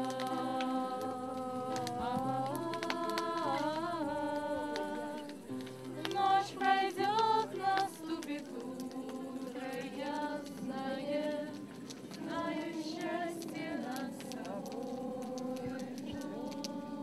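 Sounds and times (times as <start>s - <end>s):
woman singing: 0.0s - 11.6s, 12.2s - 17.0s
acoustic guitar: 0.0s - 17.0s
voices singing along: 0.0s - 17.0s.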